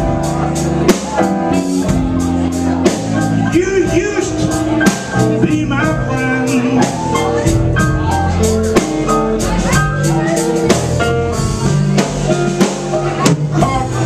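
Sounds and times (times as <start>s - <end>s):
live blues band playing: 0.0s - 14.0s.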